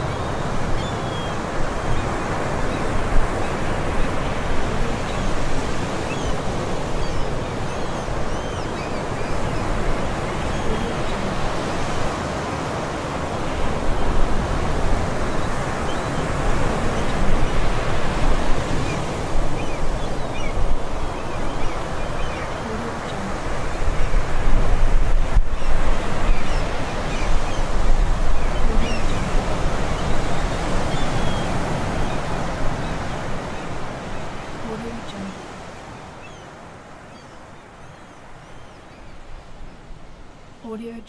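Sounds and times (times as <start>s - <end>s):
seagulls calling: 0.0s - 12.7s, 13.3s - 39.7s
ocean surf washing ashore: 0.0s - 40.9s.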